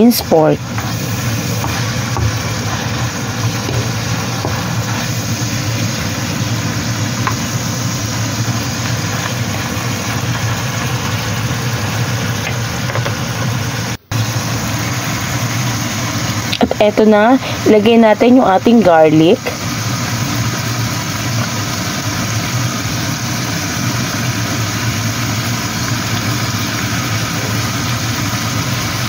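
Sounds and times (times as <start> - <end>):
meat sizzling in a pan: 0.0 - 29.0.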